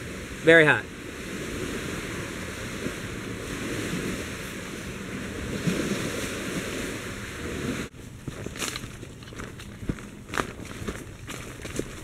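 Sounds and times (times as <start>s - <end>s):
rushing wind: 0.0s - 12.0s
wind buffeting microphone: 0.0s - 12.0s.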